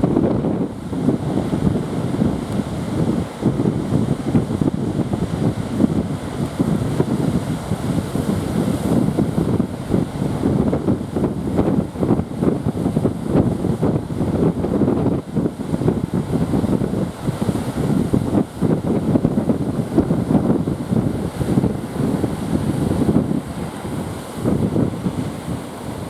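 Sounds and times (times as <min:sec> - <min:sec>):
heavy sea surf: 0:00.0 - 0:26.0
wind buffeting microphone: 0:00.0 - 0:26.0.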